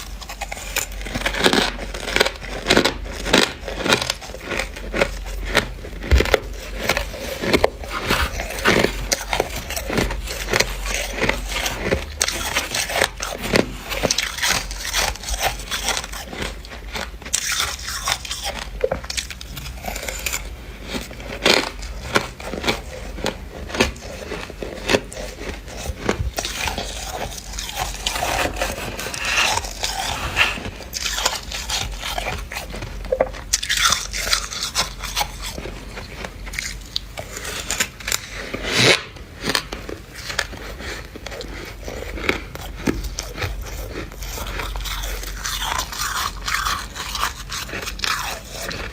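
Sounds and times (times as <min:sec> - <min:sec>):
frost being chewed: 0:00.0 - 0:48.9.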